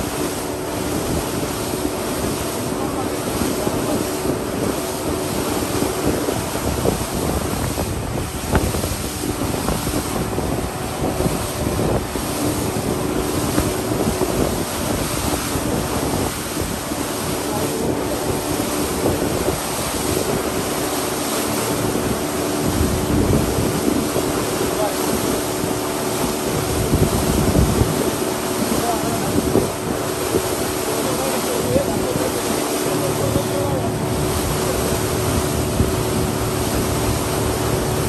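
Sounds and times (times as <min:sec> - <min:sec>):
boat engine drone: 0:00.0 - 0:38.0
water rushing past hull: 0:00.0 - 0:38.0
wind buffeting microphone: 0:00.0 - 0:38.0.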